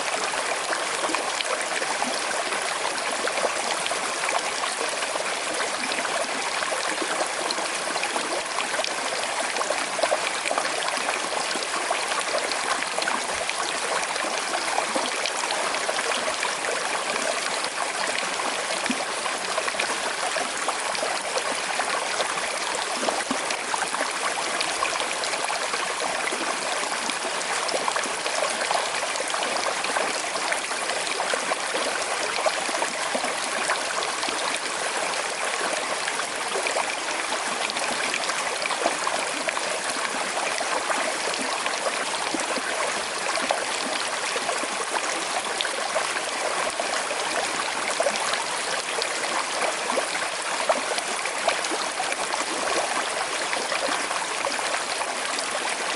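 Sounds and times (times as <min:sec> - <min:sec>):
water babbling over stones: 0:00.0 - 0:55.9.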